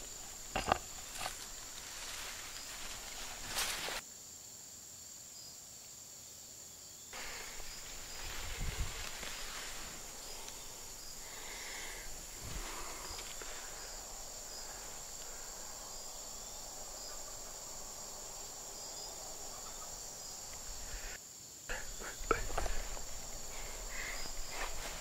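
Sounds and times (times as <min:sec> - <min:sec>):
insect chorus drone: 0:00.0 - 0:25.0.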